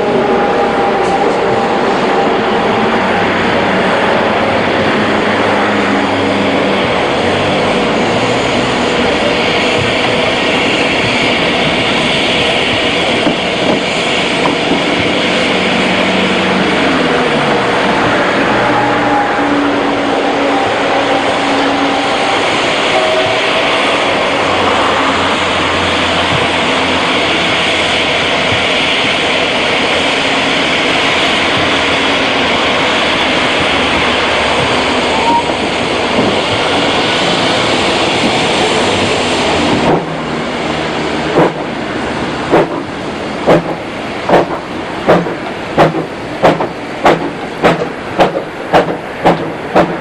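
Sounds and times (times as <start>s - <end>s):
steam hissing: 0.0s - 50.0s
steam locomotive exhaust chuffs: 0.0s - 50.0s.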